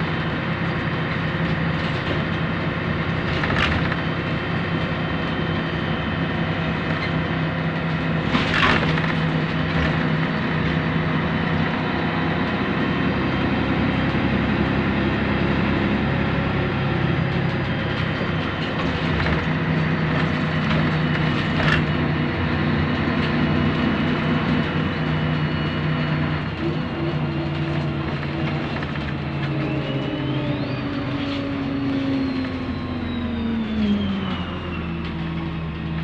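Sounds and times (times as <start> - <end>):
bus diesel engine running: 0.0 - 36.0.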